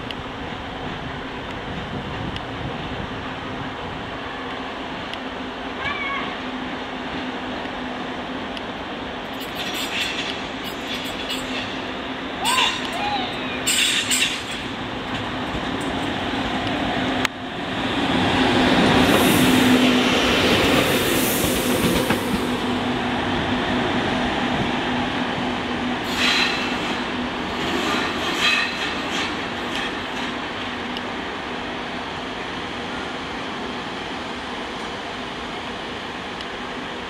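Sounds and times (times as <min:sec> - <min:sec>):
electric locomotive humming: 0:00.0 - 0:37.0
wheels rumbling on rails: 0:00.0 - 0:37.0.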